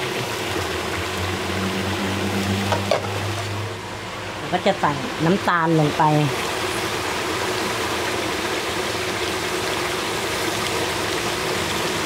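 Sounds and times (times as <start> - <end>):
stir-fry sizzling in a wok: 0.0 - 12.0.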